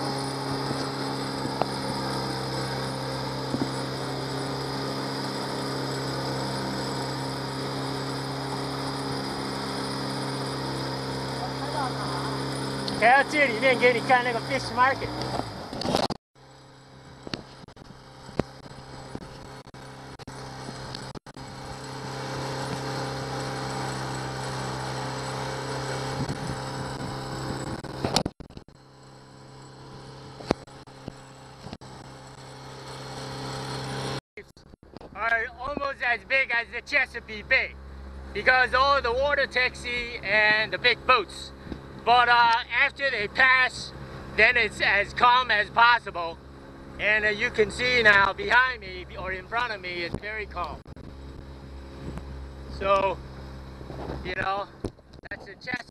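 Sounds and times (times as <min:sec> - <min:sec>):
outboard motor humming: 0:00.0 - 0:55.9
wind: 0:00.0 - 0:55.9.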